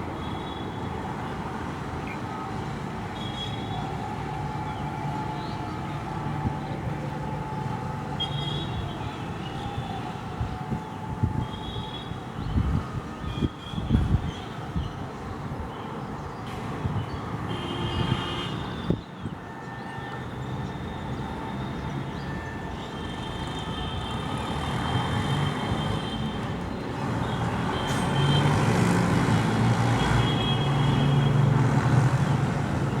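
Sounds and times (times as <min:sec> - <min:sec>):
rumble of traffic: 0:00.0 - 0:33.0.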